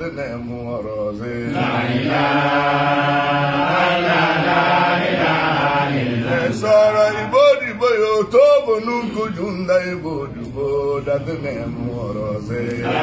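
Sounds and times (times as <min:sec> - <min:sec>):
men chanting together: 0:01.2 - 0:13.0.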